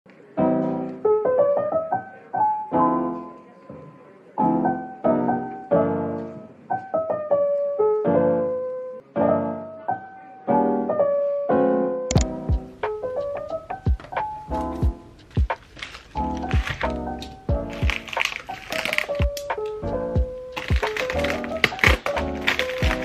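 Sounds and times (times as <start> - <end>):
piano music: 0.1 - 23.0.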